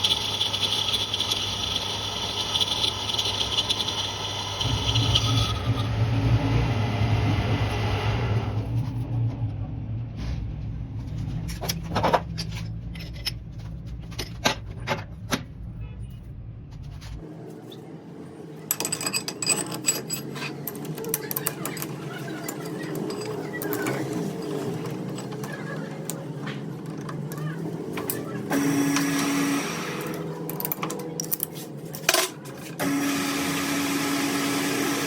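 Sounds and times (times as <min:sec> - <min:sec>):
workshop machine humming: 0:00.0 - 0:09.7, 0:16.6 - 0:35.0.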